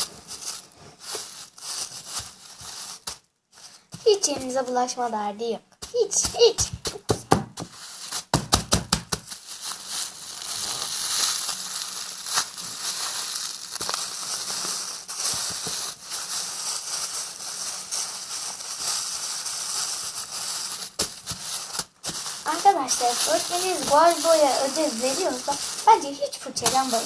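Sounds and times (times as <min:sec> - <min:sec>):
sponge squishing in plastic bag: 0:00.0 - 0:03.2, 0:03.8 - 0:27.0.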